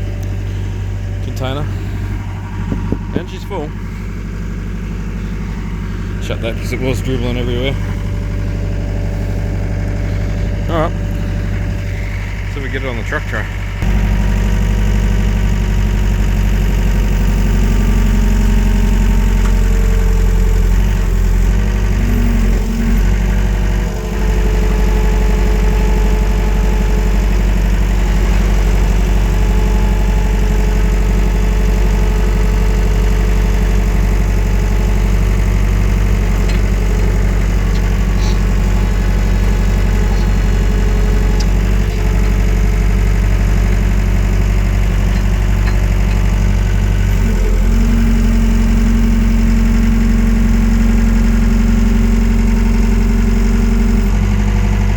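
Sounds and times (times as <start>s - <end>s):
skid steer engine under load: 0.0s - 54.9s.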